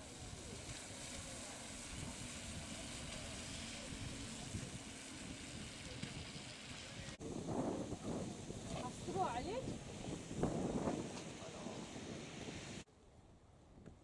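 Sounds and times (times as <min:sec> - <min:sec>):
rain hiss: 0:00.0 - 0:12.9
wind buffeting microphone: 0:00.0 - 0:12.9.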